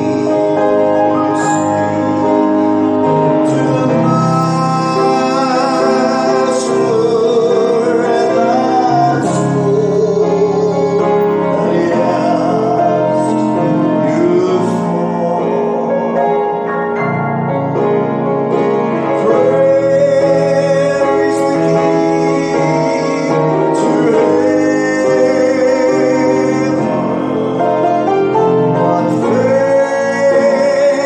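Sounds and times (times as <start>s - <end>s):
man singing a hymn: 0.0s - 17.0s, 18.4s - 31.0s
piano: 0.0s - 31.0s.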